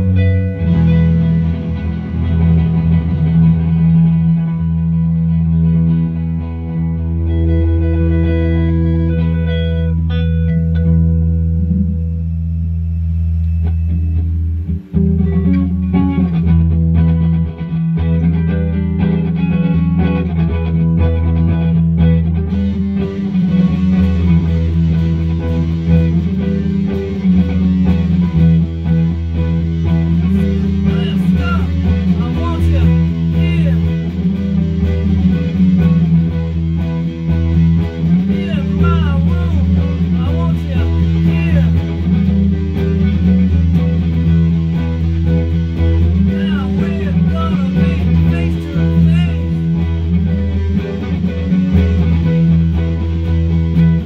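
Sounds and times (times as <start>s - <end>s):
electric guitar rock riff: 0.0s - 54.0s
higher electric guitar lead: 0.0s - 54.0s.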